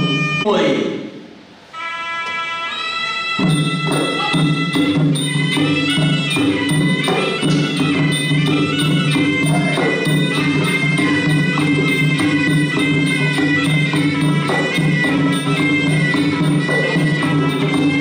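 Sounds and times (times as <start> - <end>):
wind instrument melody: 0.0 - 0.8, 1.6 - 18.0.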